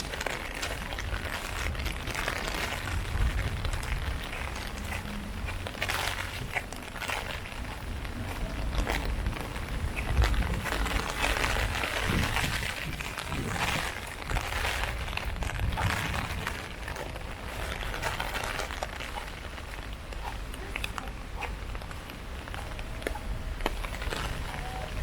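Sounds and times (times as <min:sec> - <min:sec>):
drops ticking on umbrella: 0:00.0 - 0:25.0
heavy rain on an umbrella: 0:00.0 - 0:25.0.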